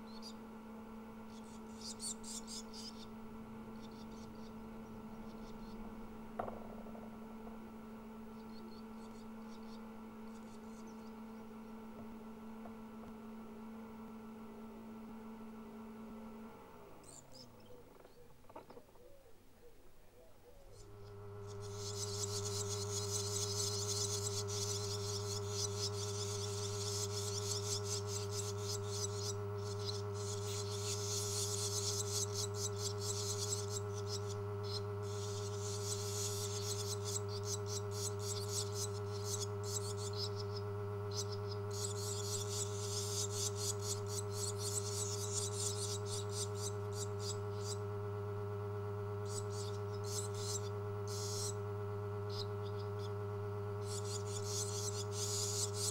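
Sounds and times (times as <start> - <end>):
nestlings begging chatter: 0.0 - 14.1, 17.0 - 55.9
electrical hum: 0.0 - 55.9.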